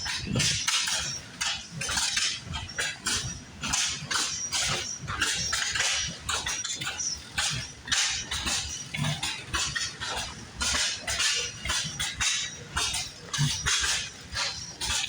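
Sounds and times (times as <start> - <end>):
old engine puffing and clattering: 0.0 - 15.0.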